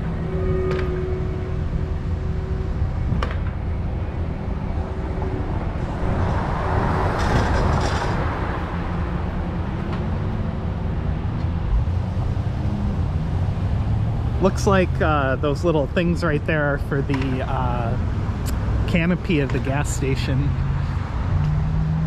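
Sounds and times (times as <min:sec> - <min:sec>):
engine rumble: 0:00.0 - 0:22.0
passing traffic rush: 0:00.0 - 0:22.0.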